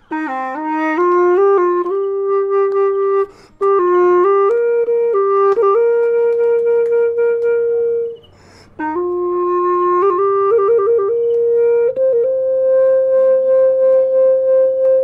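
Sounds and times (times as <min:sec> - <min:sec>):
wind instrument slow melody: 0:00.0 - 0:15.0.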